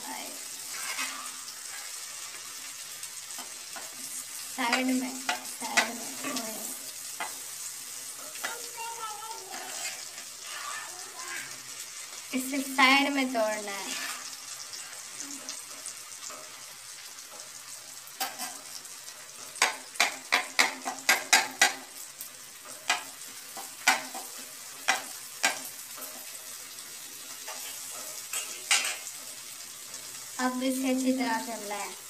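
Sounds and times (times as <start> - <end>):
vegetables sizzling in oil: 0.0 - 32.0
spatula scraping and tapping pan: 0.4 - 30.2.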